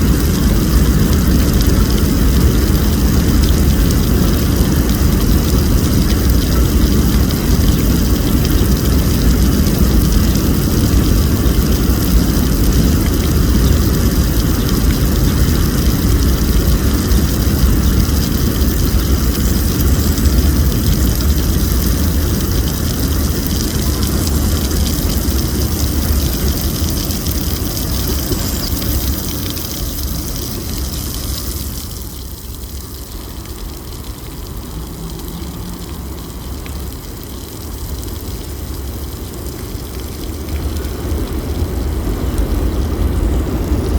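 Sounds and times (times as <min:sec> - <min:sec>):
heavy rumble of city traffic: 0:00.0 - 0:43.9
hiss of city noise: 0:00.0 - 0:43.9.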